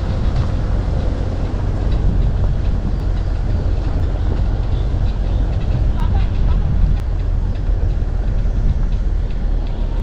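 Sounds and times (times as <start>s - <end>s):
vehicle engine and tyre rumble: 0.0s - 10.0s.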